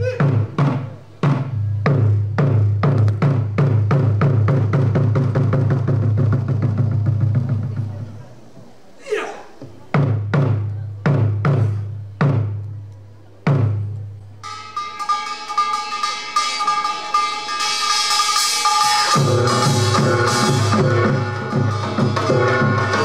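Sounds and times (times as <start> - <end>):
drums beating: 0.0 - 8.3, 9.5 - 12.8, 13.4 - 23.0.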